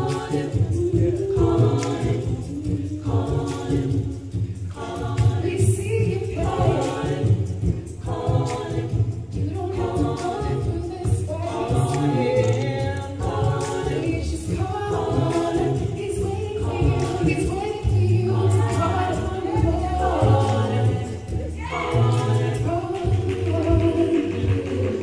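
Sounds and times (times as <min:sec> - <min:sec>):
a cappella group singing: 0:00.0 - 0:25.0.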